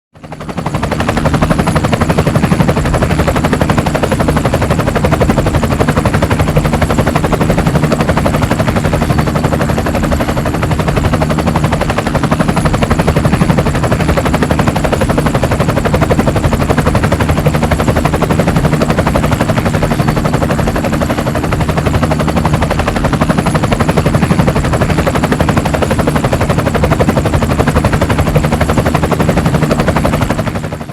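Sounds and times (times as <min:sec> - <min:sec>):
helicopter rotor blades chopping: 0:00.2 - 0:30.9.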